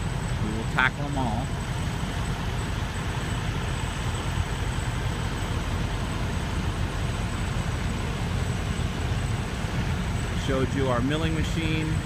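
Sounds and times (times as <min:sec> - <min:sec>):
truck engines idling: 0:00.0 - 0:12.0.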